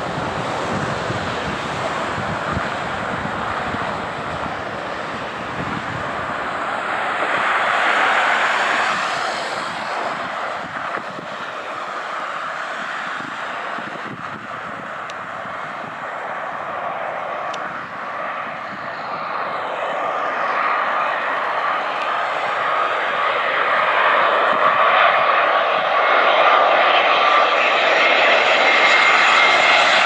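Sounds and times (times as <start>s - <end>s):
jet engines rushing: 0.0s - 30.0s.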